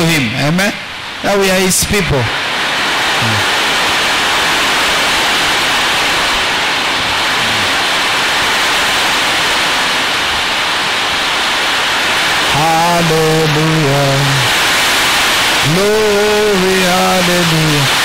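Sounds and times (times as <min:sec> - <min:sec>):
heavy rain hiss: 0:00.0 - 0:18.0.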